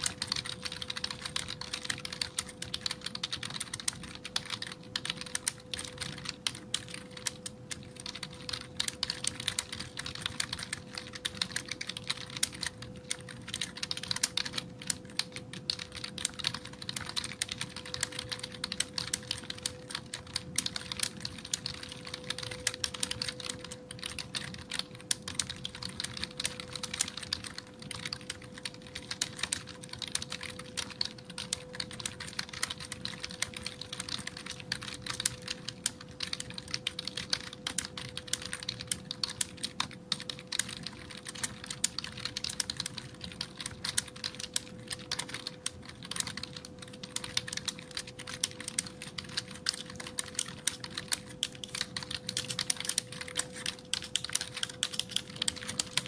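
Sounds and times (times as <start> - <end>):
faint steady hum: 0.0 - 56.0
keyboard typing clicks: 0.0 - 56.0.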